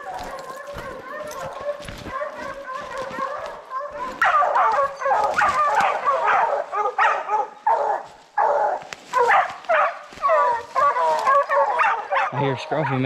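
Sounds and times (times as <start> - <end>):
hounds baying: 0.0 - 13.0.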